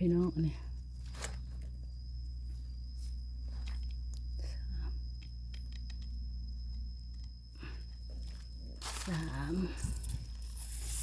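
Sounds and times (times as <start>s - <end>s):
crackles of mushrooms being picked: 0.0s - 11.0s.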